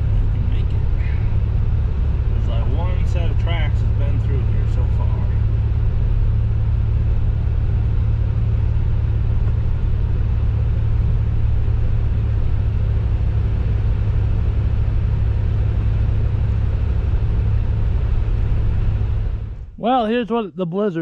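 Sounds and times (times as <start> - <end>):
car engine and tyres rumbling: 0.0 - 20.4.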